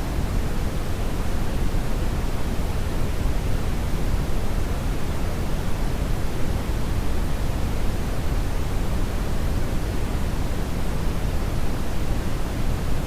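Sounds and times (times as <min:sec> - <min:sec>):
brown noise hiss: 0:00.0 - 0:13.0.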